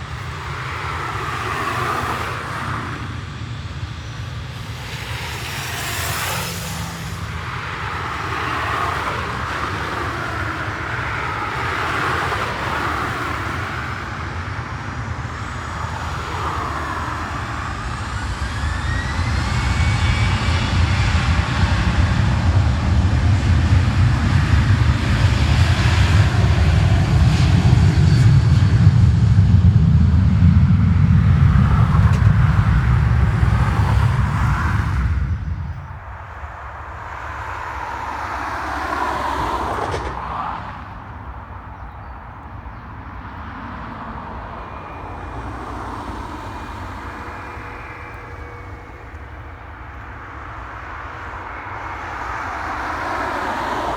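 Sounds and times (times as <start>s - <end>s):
jet engines rumbling: 0.0s - 53.9s
rising jet whine: 0.0s - 53.9s.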